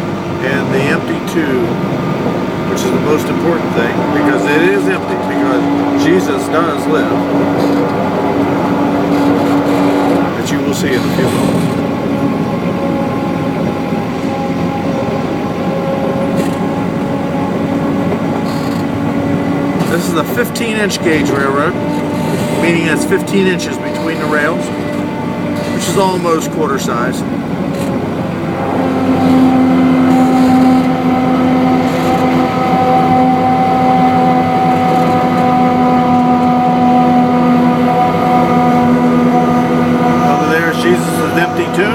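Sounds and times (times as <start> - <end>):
diesel locomotive engine humming: 0.0 - 41.9
steady whine: 0.0 - 41.9
train rolling: 0.0 - 41.9.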